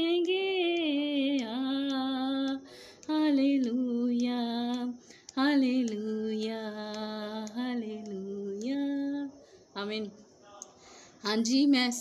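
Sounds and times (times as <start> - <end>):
woman singing unaccompanied: 0.0 - 10.2, 11.2 - 12.0.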